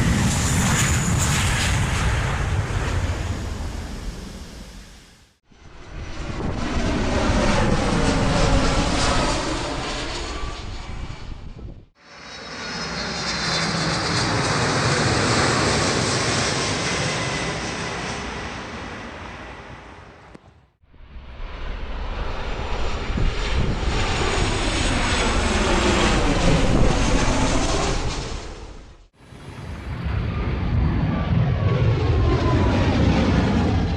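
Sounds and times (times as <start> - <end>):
airplane engine taking off: 0.0 - 33.9.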